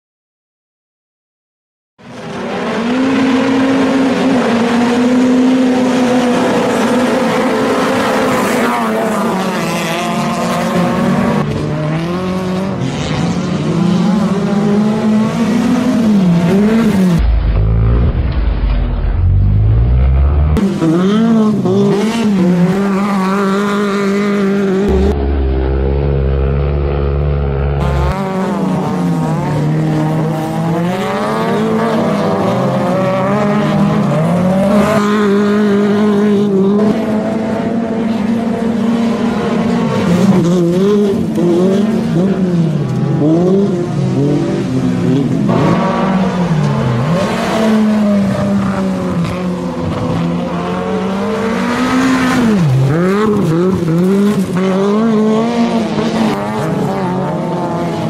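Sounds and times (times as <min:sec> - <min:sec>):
race car engine revving: 0:02.1 - 0:58.0.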